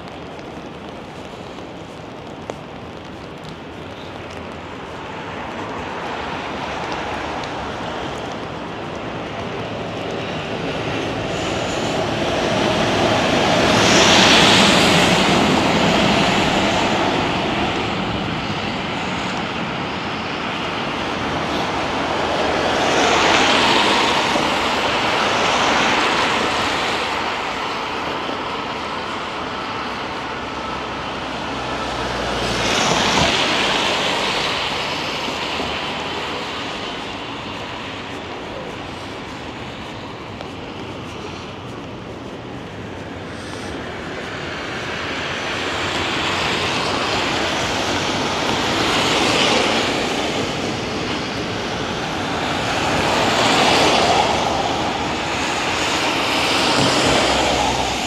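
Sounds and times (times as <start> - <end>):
cars passing on wet road: 0.0 - 58.0.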